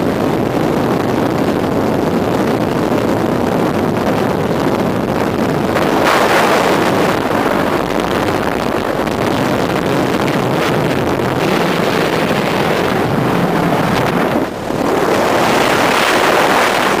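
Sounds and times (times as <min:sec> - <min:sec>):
aircraft engine and propeller: 0:00.0 - 0:17.0
heavy wind rush: 0:00.0 - 0:17.0.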